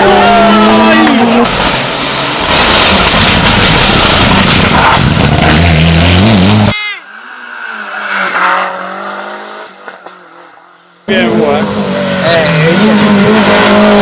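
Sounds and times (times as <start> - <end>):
rally car engine at full throttle: 0.0 - 14.0
rally car engine revving: 0.0 - 14.0.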